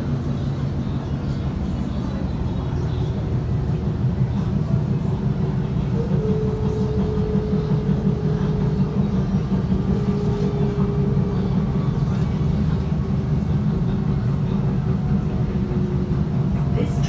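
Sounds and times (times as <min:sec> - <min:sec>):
train interior rumble: 0:00.0 - 0:17.0
train whine: 0:00.0 - 0:17.0.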